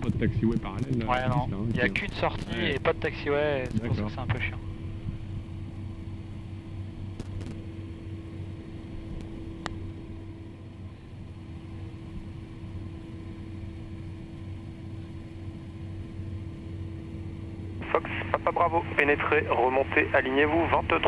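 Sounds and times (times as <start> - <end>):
jet engines idling hum: 0.0 - 21.0.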